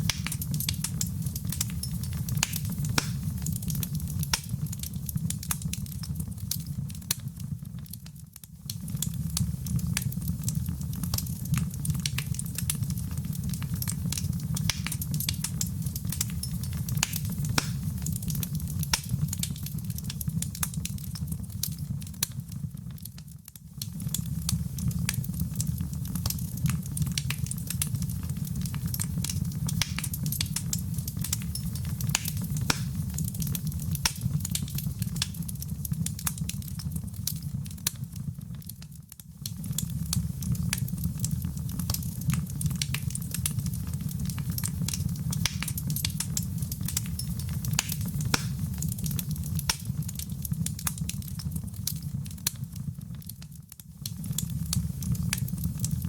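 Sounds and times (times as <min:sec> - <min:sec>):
fire flames rumbling: 0:00.0 - 0:08.0, 0:08.6 - 0:23.2, 0:23.8 - 0:56.0
fire crackling and popping: 0:00.0 - 0:56.0.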